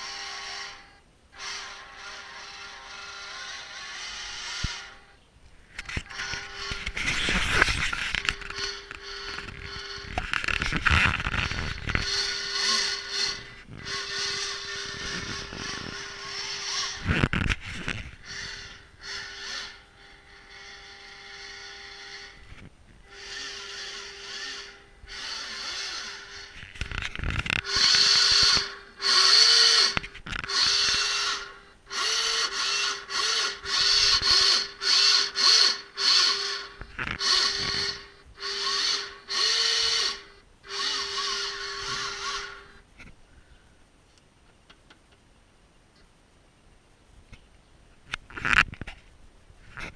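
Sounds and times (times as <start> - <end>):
sail winch whirring: 0.0 - 43.1
steady low hum: 0.0 - 49.9.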